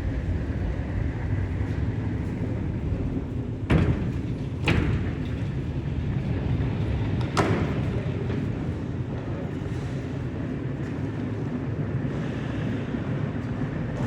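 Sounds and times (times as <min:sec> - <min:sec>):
low mechanical rumble: 0:00.0 - 0:14.0.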